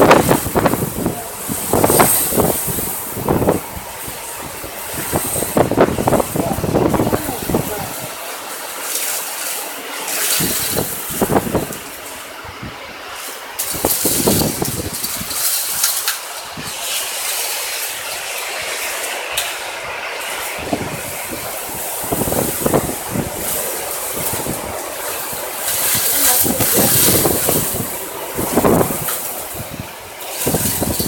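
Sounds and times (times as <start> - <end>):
strong wind rushing: 0.0 - 8.7, 9.9 - 31.0
low rumbling wind buffets: 0.0 - 31.0.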